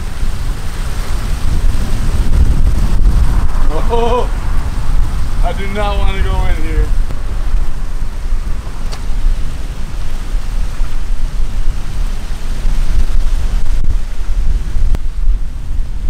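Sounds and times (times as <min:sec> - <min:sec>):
water rushing over weir: 0:00.0 - 0:16.0
wind buffeting microphone: 0:00.0 - 0:16.0.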